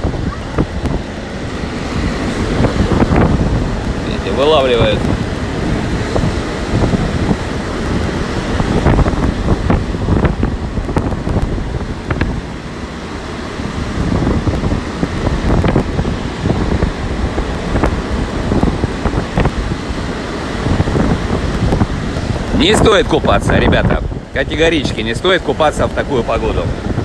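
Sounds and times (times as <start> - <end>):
surf crashing on shore: 0.0 - 27.0
wind buffeting microphone: 0.0 - 27.0.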